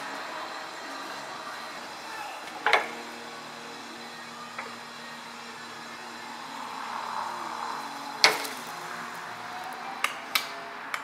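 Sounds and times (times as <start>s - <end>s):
motor hum with hiss: 0.0s - 11.0s.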